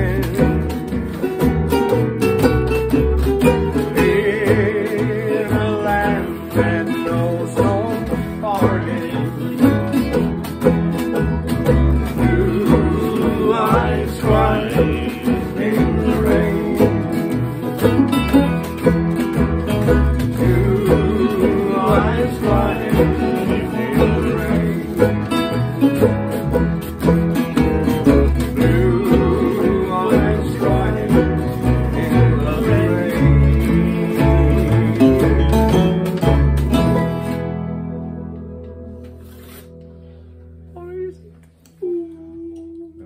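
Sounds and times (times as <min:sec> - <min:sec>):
acoustic string band playing: 0:00.0 - 0:41.2.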